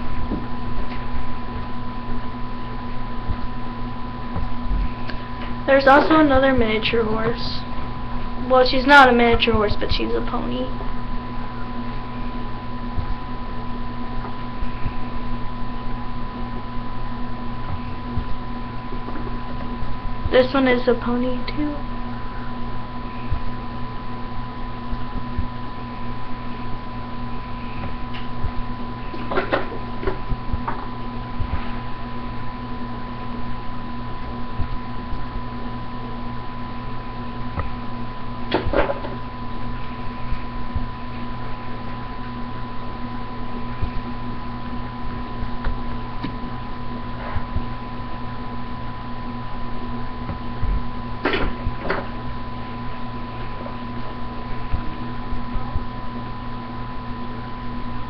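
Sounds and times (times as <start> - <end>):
electrical hum with high whine: 0.0 - 58.0.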